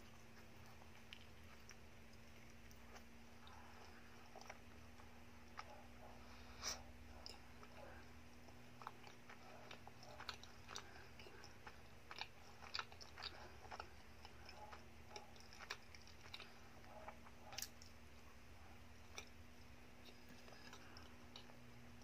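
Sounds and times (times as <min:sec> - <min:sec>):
mouth chewing clicks and smacks: 0:00.0 - 0:18.0
faint steady hum: 0:00.0 - 0:22.0.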